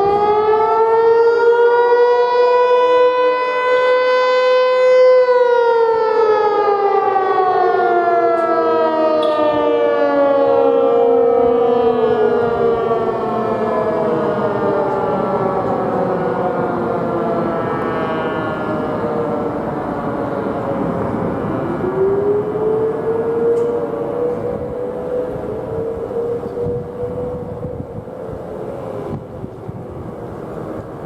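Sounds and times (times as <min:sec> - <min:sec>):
warning siren winding down: 0:00.0 - 0:31.0.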